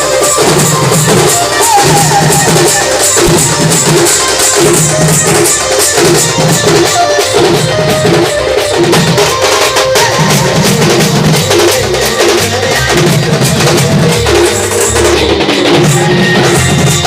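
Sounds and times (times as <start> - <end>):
band music with drums: 0.0 - 17.0.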